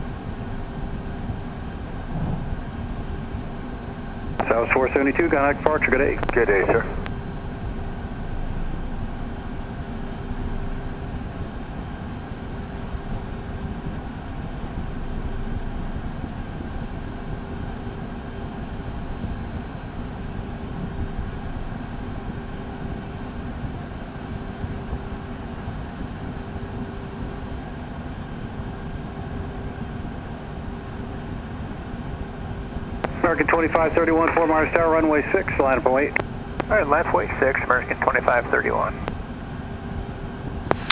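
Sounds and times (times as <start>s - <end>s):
faint steady hum: 0.0s - 40.9s
jet engines running at low power: 0.0s - 40.9s.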